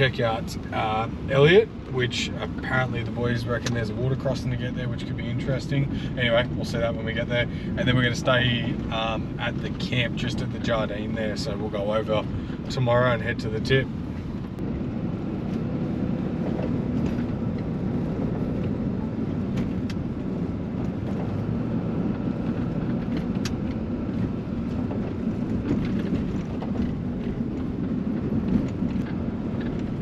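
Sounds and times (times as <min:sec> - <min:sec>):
engine and tyre rumble: 0:00.0 - 0:30.0.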